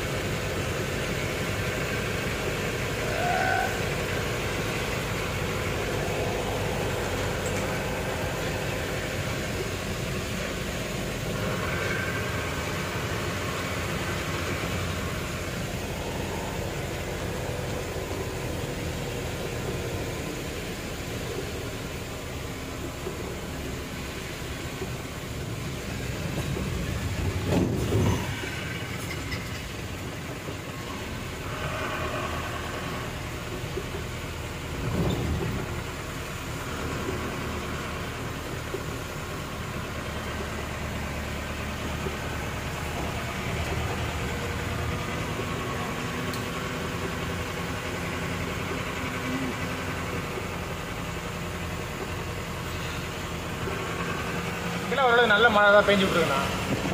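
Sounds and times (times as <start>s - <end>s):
vehicle driving on wet highway: 0.0s - 56.9s.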